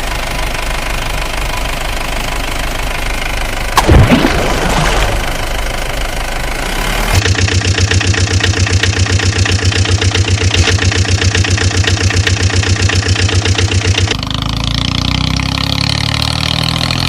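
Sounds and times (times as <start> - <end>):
engine idling with rapid knock: 0.0 - 14.5.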